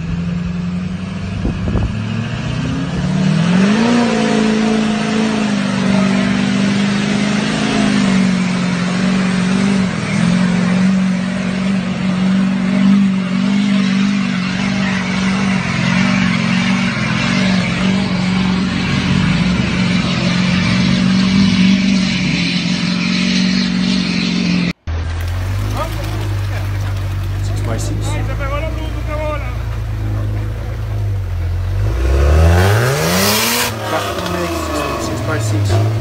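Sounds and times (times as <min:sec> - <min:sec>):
truck engine at high revs: 0:00.0 - 0:36.0.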